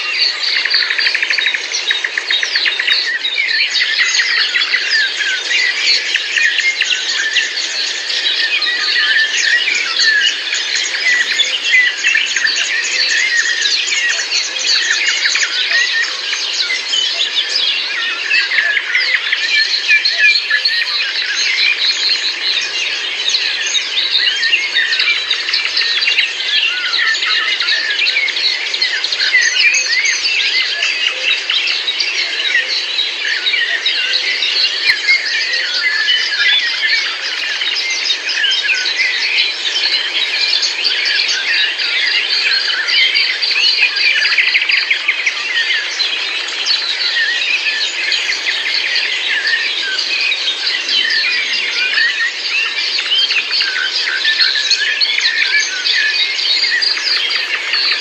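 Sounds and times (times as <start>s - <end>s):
small birds chirping and twittering: 0.0s - 58.0s.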